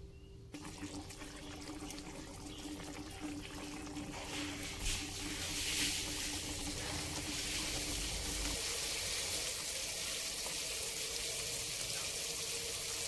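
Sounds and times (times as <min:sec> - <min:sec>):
sauce bubbling in a wok: 0:00.5 - 0:13.0.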